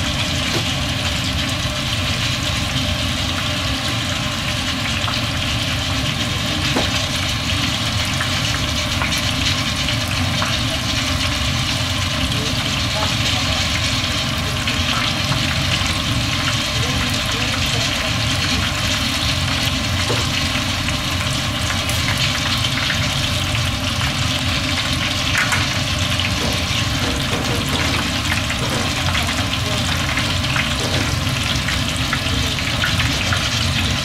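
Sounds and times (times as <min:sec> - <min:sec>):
cutlets sizzling in hot oil: 0:00.0 - 0:34.0.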